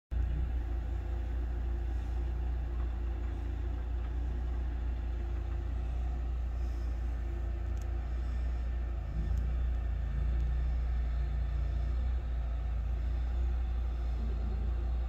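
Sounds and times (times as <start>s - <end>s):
engine idling: 0.1s - 15.0s.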